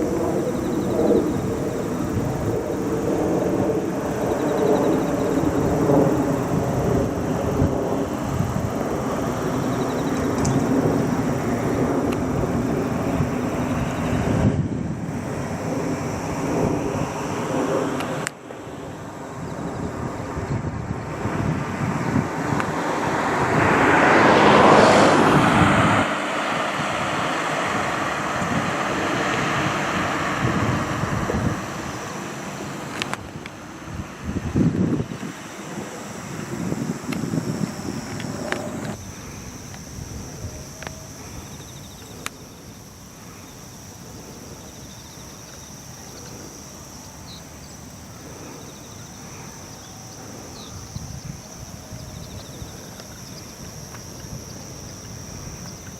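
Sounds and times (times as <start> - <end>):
insects chirring: 0.0 - 55.9
wind buffeting microphone: 0.0 - 55.9
vehicle tyre hiss passing: 1.2 - 55.9.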